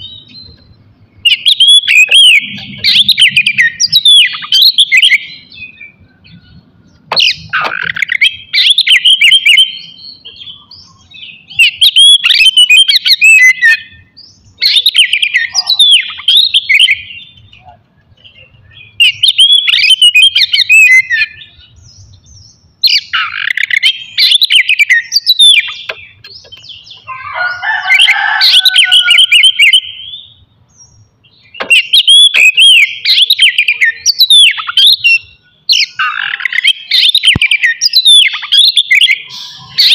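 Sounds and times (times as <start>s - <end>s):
bird singing whistled phrases: 1.2s - 6.5s, 7.2s - 17.4s, 18.4s - 21.8s, 22.8s - 30.4s, 31.4s - 39.9s.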